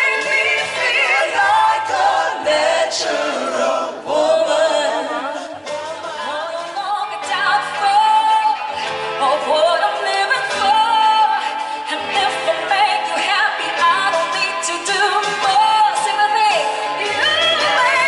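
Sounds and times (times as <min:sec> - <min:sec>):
musical accompaniment: 0:00.0 - 0:18.0
woman singing into microphone: 0:00.0 - 0:18.0.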